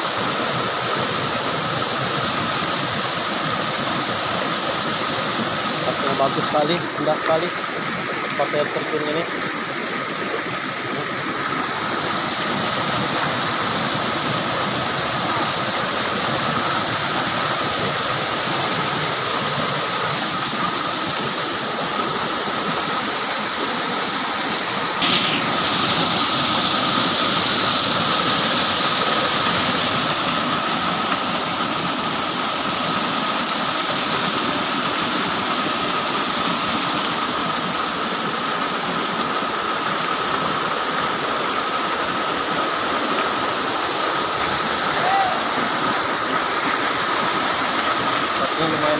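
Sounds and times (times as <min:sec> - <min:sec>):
waterfall and stream rushing: 0:00.0 - 0:48.9.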